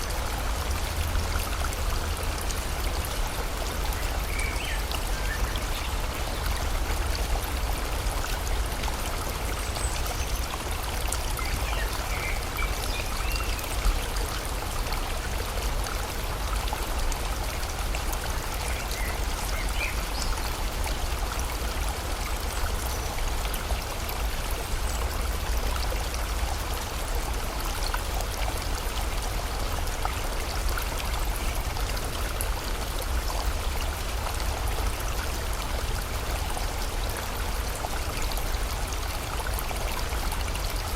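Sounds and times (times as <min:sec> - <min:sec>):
falling rain: 0:00.0 - 0:40.9.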